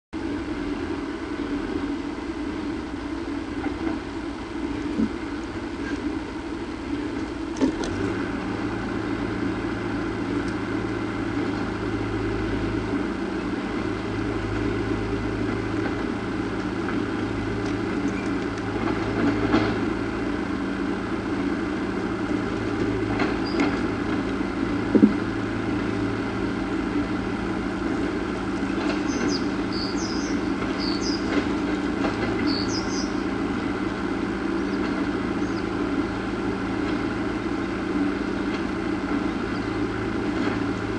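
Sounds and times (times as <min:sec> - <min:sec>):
low mechanical hum: 0:00.2 - 0:40.9.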